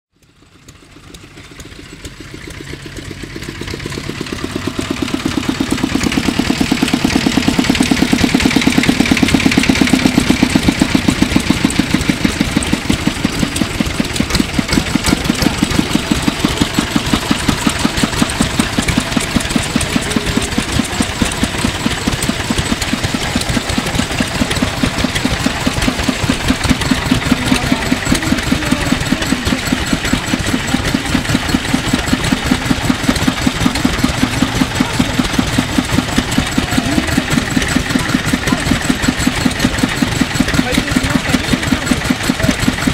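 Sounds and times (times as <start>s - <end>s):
tiller engine running: 0.1s - 42.9s.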